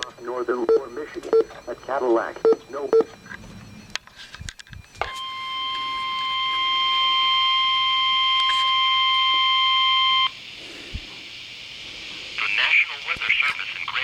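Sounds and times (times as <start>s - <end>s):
steady alarm tone: 0.0s - 13.1s.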